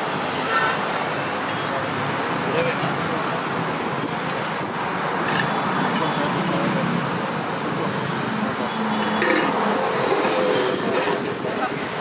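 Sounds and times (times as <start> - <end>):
roadside traffic noise: 0.0 - 12.0.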